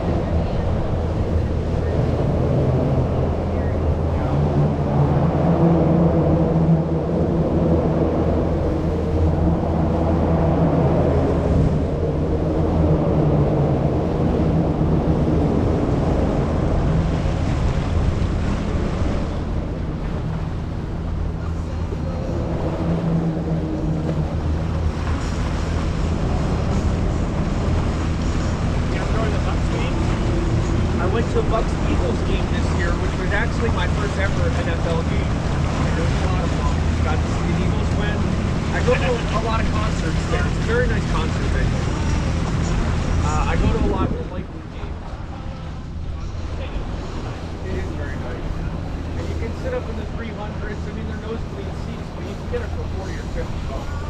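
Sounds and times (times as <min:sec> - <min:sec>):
boat motor drone: 0:00.0 - 0:54.0
wind buffeting microphone: 0:00.0 - 0:54.0.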